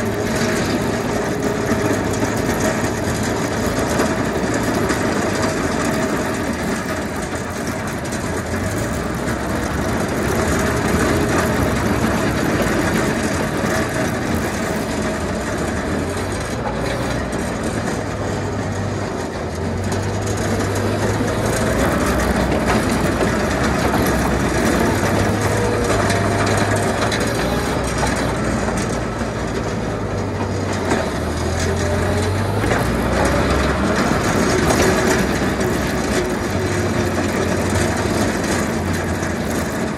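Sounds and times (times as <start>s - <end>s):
loader engine running: 0.0s - 39.9s
plow scraping snow and ice: 0.0s - 39.9s.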